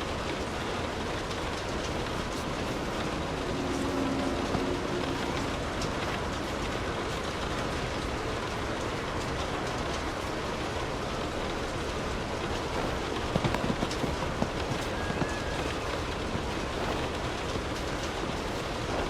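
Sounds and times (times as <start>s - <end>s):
close raindrops: 0.0s - 19.0s
steady rain: 0.0s - 19.0s.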